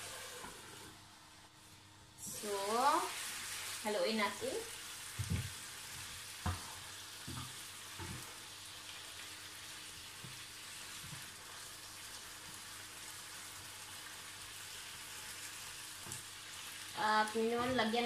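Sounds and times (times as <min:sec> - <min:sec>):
meat sizzling in frying pan: 0:02.2 - 0:18.0.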